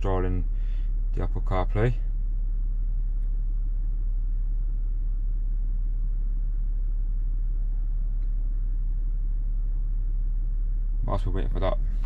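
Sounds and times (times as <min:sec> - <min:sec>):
deep hum: 0:00.0 - 0:12.0
low rumble: 0:00.0 - 0:12.0.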